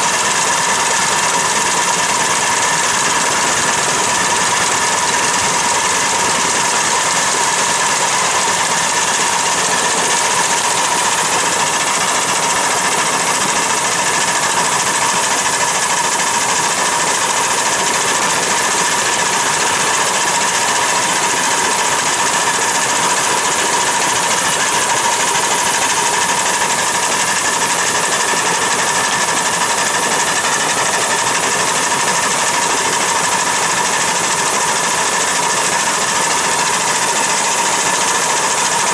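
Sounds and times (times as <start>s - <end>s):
machine running steadily: 0.0s - 38.9s.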